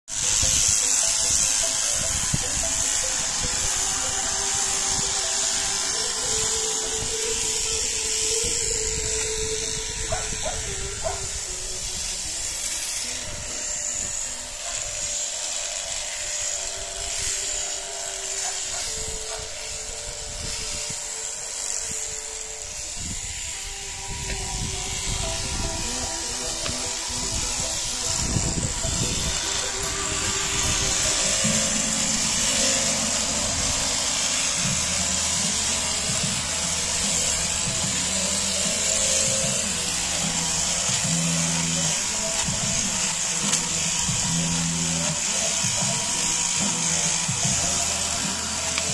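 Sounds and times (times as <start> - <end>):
electric shears motor hum: 0.0 - 48.9
high cutter hiss: 0.0 - 48.9.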